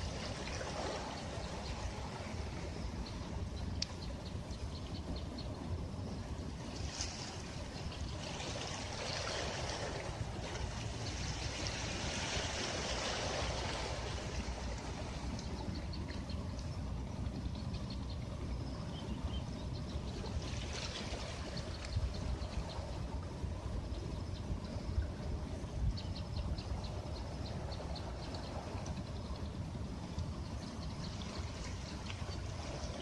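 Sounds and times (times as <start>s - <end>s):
ocean waves washing onto beach: 0.0s - 18.5s, 19.1s - 33.0s
low rumble of surf: 0.0s - 33.0s.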